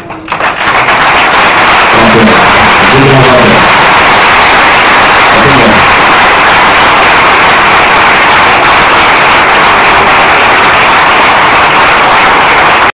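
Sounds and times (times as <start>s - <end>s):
audience applauding and cheering: 0.0s - 13.0s.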